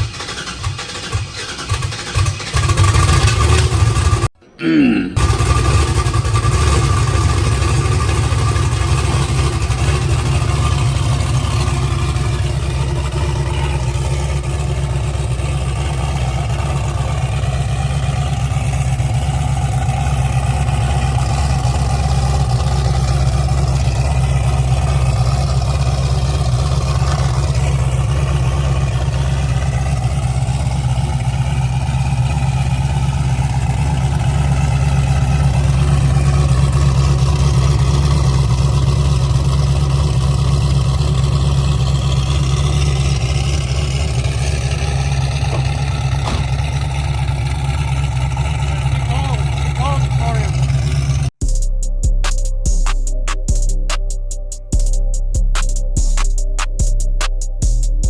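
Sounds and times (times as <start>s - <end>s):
loud engine idling: 0.0s - 4.4s, 5.2s - 51.4s.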